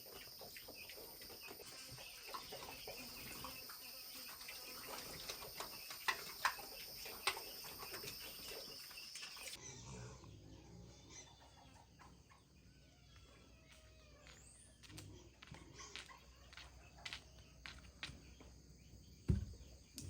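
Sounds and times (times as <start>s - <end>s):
insects droning: 0.0s - 10.6s, 13.6s - 20.0s
birds chirping: 0.0s - 20.0s.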